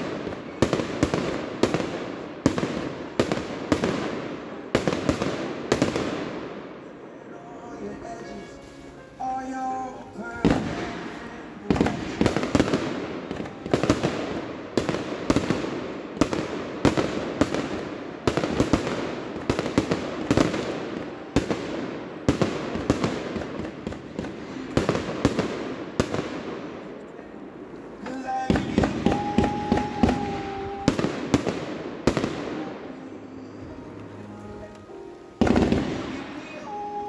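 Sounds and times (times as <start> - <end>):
fireworks bursts with echo: 0.0 - 37.0.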